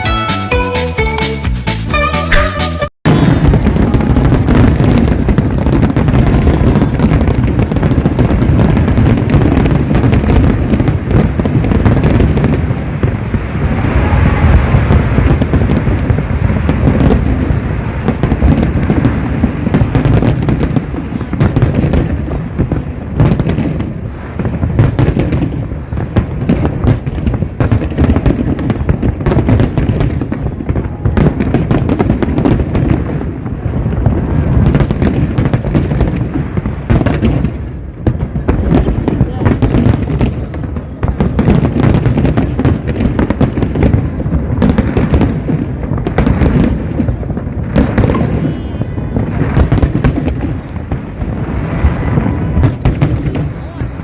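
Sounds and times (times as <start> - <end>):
fireworks booms and bangs: 1.9 - 54.0.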